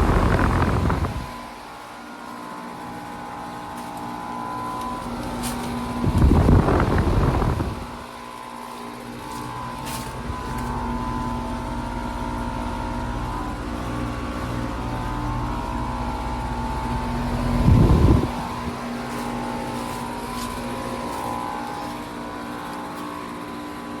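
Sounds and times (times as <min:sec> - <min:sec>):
heat pump compressor and fan hum: 0:00.0 - 0:24.0.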